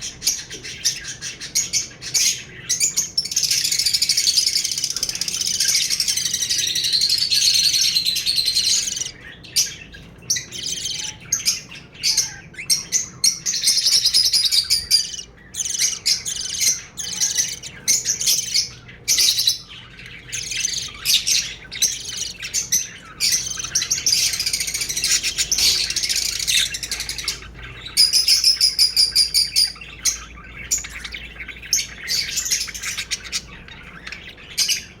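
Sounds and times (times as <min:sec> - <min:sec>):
bird trill: 0:00.0 - 0:35.0
small birds chirping and twittering: 0:00.0 - 0:35.0.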